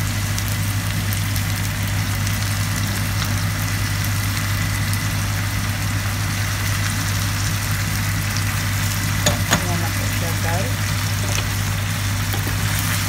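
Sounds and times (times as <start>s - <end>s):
vegetables frying in a pan: 0.0s - 13.0s.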